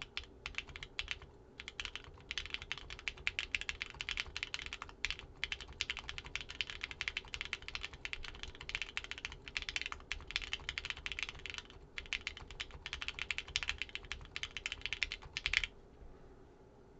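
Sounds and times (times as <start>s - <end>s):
fast mechanical keyboard typing: 0.0s - 15.7s.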